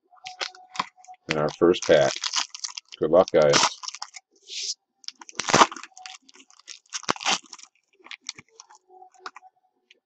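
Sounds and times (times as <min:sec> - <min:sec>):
wrapper crinkling: 0:00.2 - 0:04.2, 0:05.1 - 0:09.4
wrapper tearing open: 0:00.3 - 0:04.2, 0:05.1 - 0:09.4.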